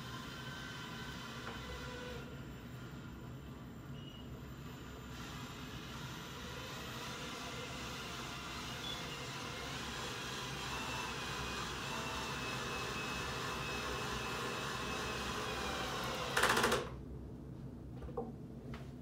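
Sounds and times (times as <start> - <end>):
steady mechanical whir: 0.0 - 17.0.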